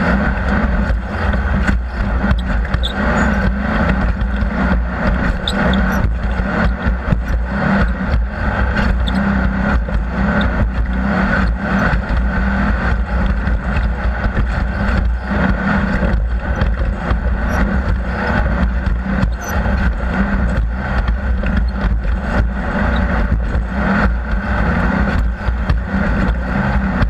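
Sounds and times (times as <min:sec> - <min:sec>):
knocks and rattles: 0:00.0 - 0:27.0
vehicle engine running hard: 0:00.0 - 0:27.0.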